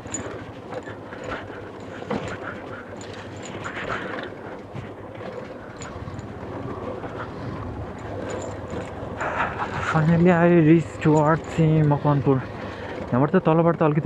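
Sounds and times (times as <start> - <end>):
small clicks and rattles: 0.0 - 14.0.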